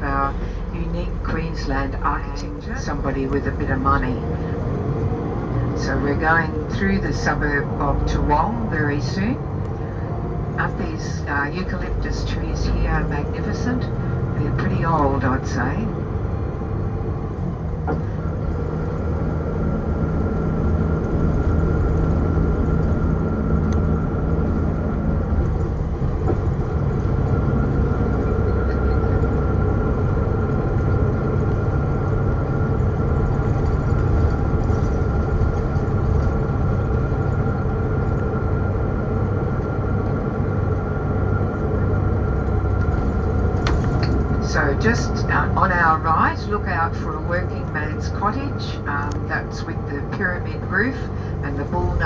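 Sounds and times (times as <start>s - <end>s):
bus engine rumble and road noise: 0.0s - 52.0s
constant high whine: 0.0s - 52.0s.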